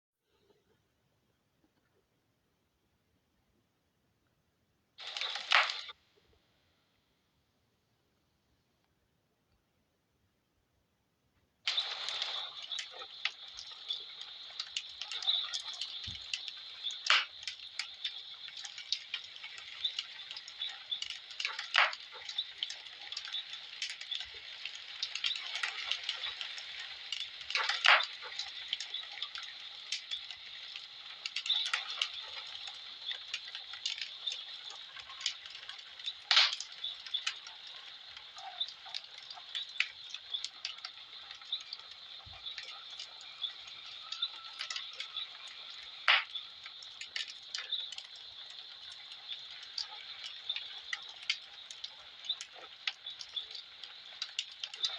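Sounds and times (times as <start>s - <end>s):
wood fire crackling and popping: 5.0s - 6.0s, 11.7s - 54.9s
steady hiss: 5.0s - 7.3s, 11.6s - 54.9s.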